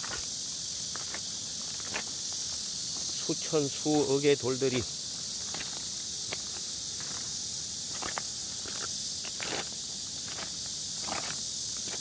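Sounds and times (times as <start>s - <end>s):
footsteps on loose stones: 0.0s - 3.2s, 5.4s - 12.0s
insects hissing: 0.0s - 12.0s.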